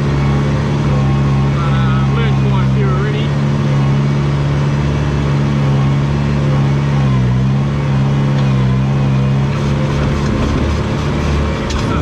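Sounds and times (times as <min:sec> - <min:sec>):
bulldozer diesel engine running: 0:00.0 - 0:12.0.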